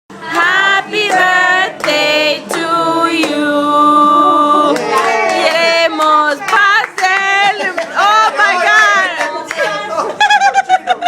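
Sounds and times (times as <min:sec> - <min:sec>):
people singing without accompaniment: 0:00.1 - 0:10.0.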